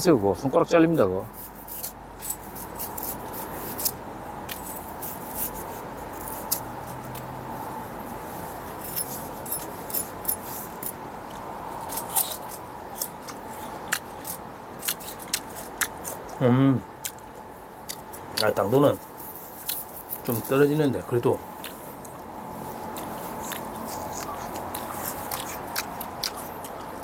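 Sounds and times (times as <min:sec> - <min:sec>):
steady background hiss: 0:00.0 - 0:27.0
knife peeling and cutting pear: 0:01.0 - 0:27.0.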